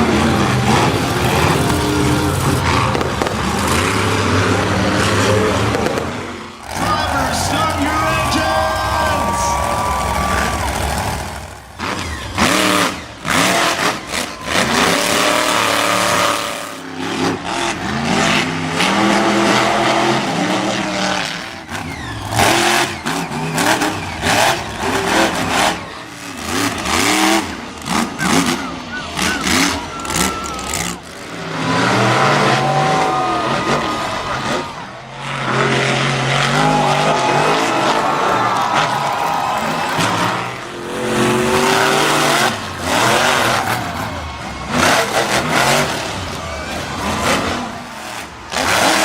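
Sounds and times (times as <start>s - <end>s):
truck engine revving hard: 0.0s - 49.0s.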